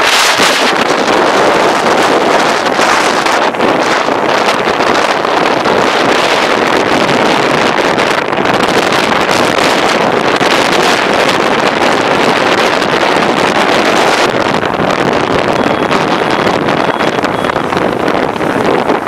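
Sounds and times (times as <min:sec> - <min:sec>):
vehicle engine and road noise: 0:00.0 - 0:19.0
wind buffeting microphone: 0:00.0 - 0:19.0.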